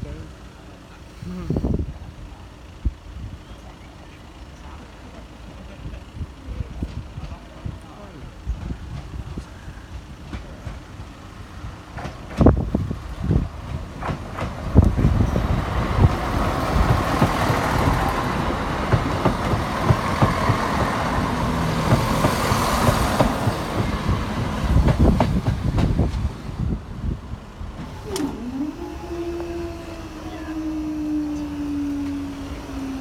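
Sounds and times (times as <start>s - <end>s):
train rumbling over crossing: 0.0s - 33.0s.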